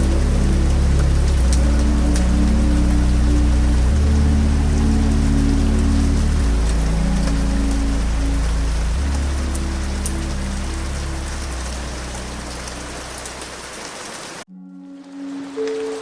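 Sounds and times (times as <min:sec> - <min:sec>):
ambient music pad: 0:00.0 - 0:13.9, 0:14.5 - 0:16.0
steady rain: 0:00.0 - 0:16.0.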